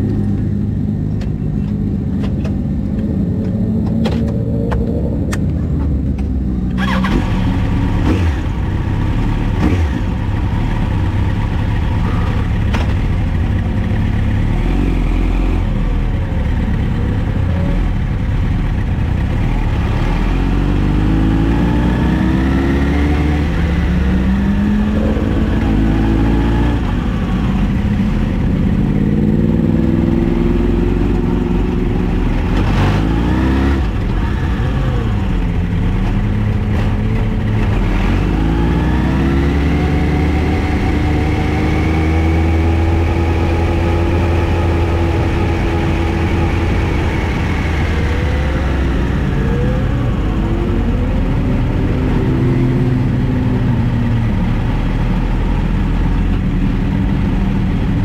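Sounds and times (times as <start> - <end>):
vehicle engine accelerating: 0.0 - 58.0.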